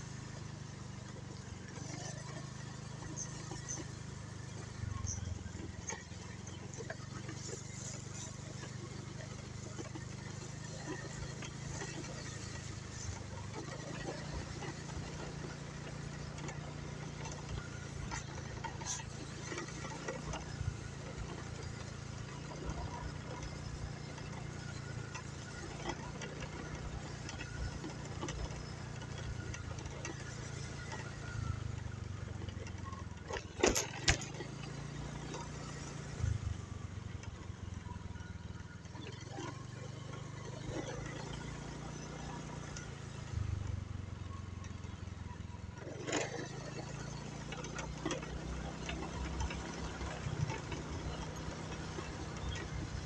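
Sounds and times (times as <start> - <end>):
small motorcycle engine running: 0.0 - 53.0.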